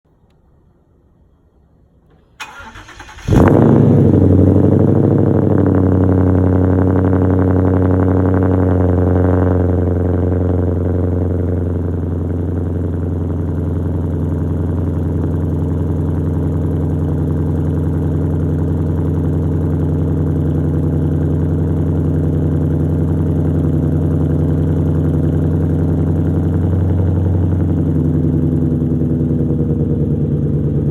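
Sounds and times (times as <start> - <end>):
car engine idling: 2.1 - 30.9.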